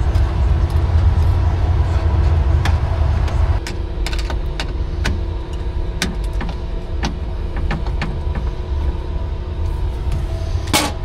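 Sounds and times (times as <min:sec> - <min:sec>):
faint hum: 0:00.0 - 0:11.0
low rumble: 0:00.0 - 0:11.0.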